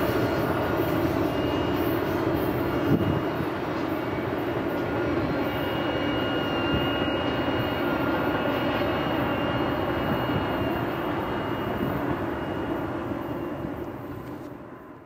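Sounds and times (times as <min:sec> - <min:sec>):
freight train rumble: 0:00.0 - 0:15.0
thin high whine: 0:00.0 - 0:15.0.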